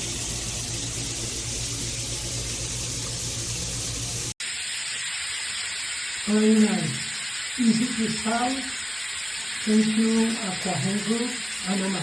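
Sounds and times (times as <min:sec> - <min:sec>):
shower spraying water: 0:00.0 - 0:12.0.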